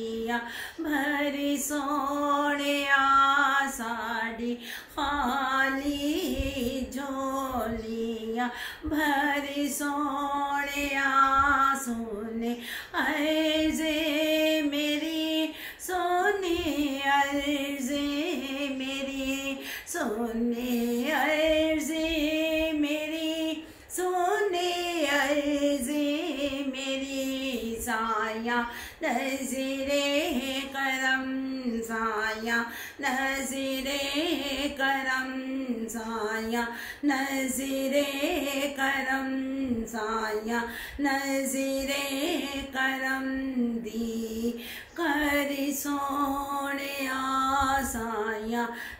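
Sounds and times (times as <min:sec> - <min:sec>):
woman singing unaccompanied: 0:00.0 - 0:48.9.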